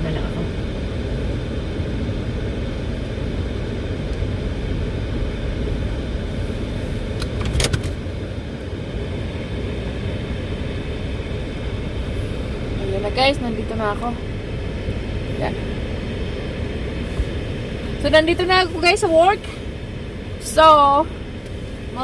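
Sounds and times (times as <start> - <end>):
car cabin engine rumble: 0.0 - 22.0.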